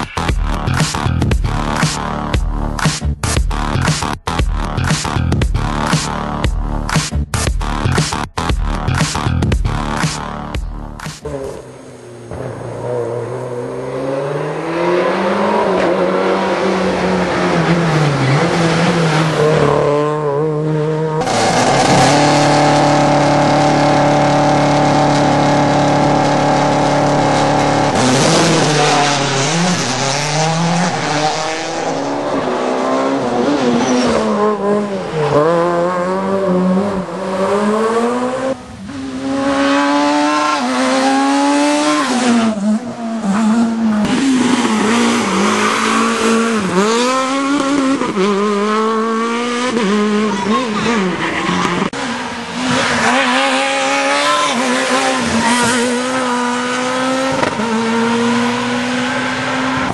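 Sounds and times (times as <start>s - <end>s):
rally car engines revving: 7.6s - 59.9s.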